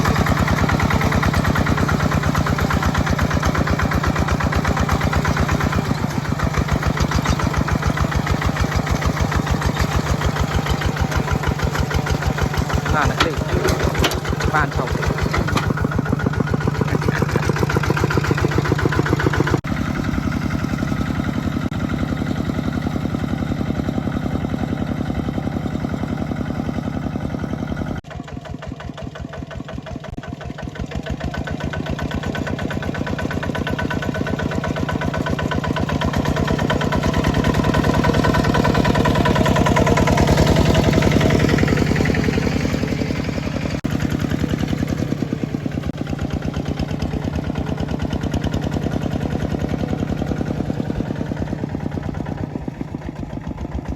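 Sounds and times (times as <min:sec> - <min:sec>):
tractor engine under load: 0:00.0 - 0:53.9.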